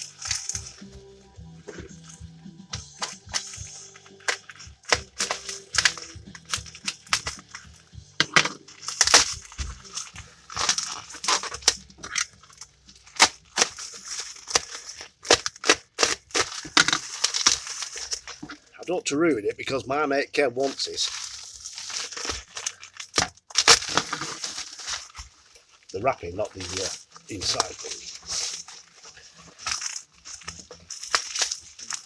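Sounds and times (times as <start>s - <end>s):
plastic packaging crinkling: 0.0s - 19.5s, 20.4s - 32.0s.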